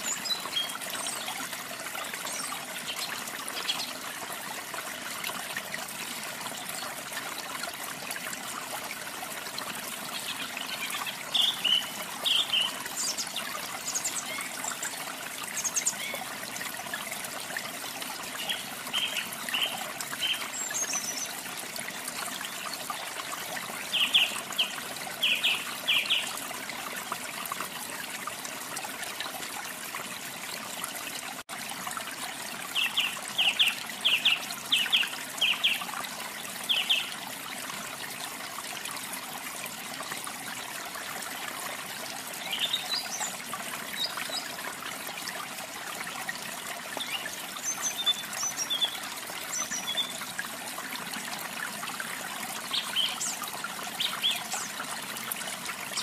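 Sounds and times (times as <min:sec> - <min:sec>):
trickling water: 0:00.0 - 0:56.0.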